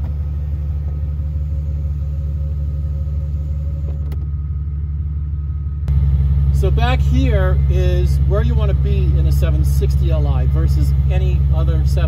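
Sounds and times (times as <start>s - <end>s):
car engine idling: 0.0s - 12.0s
thin motor whine: 0.0s - 12.0s.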